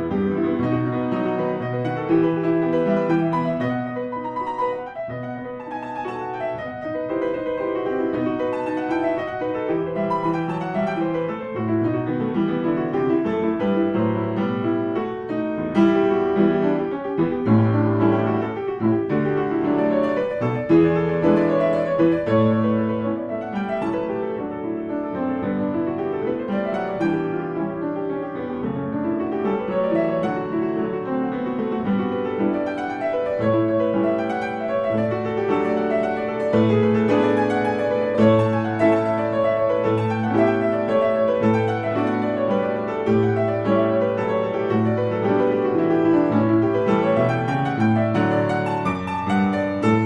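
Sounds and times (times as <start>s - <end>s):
classical piano music: 0.0s - 50.0s.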